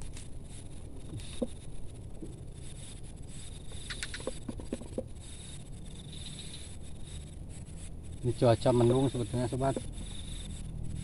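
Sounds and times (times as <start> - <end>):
high insect drone: 0.0 - 11.0
low wind rumble: 0.0 - 11.0.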